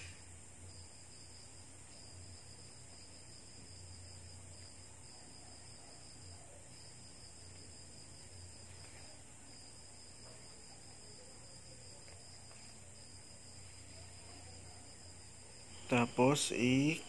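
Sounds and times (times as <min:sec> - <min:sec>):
faint high-pitched whine: 0:00.0 - 0:17.0.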